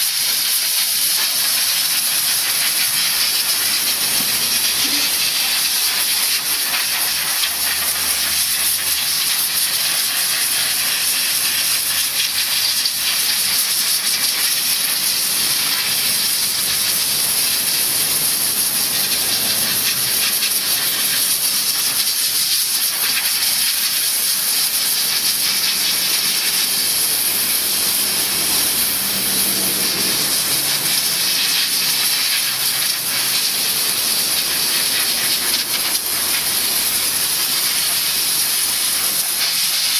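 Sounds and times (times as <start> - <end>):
steam spray gun hissing: 0.0 - 39.9.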